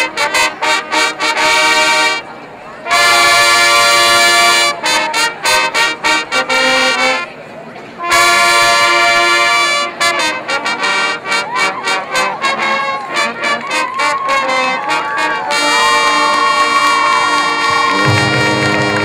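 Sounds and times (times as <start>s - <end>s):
marching band sharp hits: 0.0s - 2.2s, 2.8s - 7.4s, 8.0s - 19.0s
marching band brass chord: 0.0s - 19.0s.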